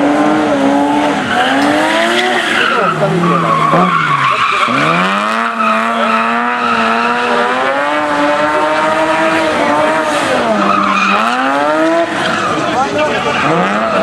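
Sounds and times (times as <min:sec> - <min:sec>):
car engine at high revs: 0:00.0 - 0:14.0
tyres squealing: 0:00.6 - 0:14.0.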